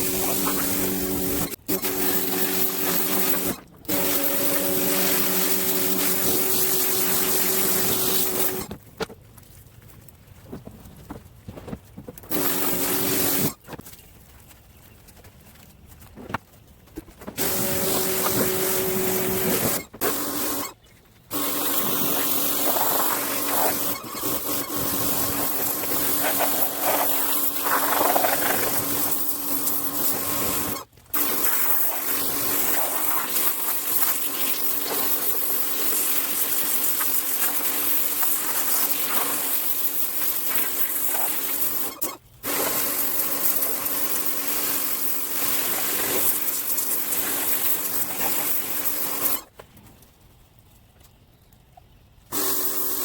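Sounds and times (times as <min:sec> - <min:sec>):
pressure washer spraying water: 0:00.0 - 0:08.7, 0:12.3 - 0:13.6, 0:17.4 - 0:49.4, 0:52.3 - 0:53.0
motor hum: 0:00.0 - 0:08.9, 0:10.1 - 0:49.5.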